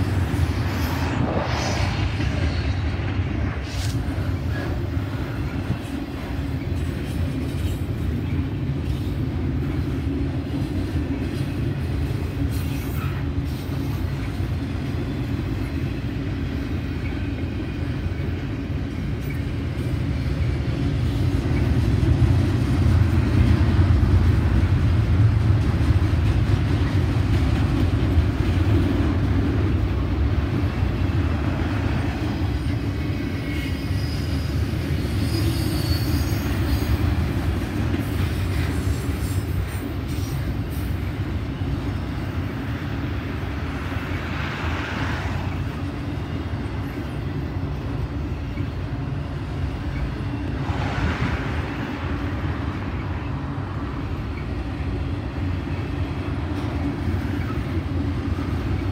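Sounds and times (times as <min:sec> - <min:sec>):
steel wheels rumbling on rail: 0:00.0 - 0:58.9.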